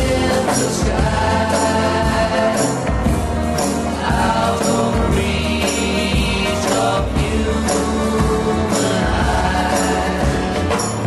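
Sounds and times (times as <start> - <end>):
choir-like voices: 0.0 - 11.0
high percussion hit: 0.0 - 11.0
pop-rock song: 0.0 - 11.0.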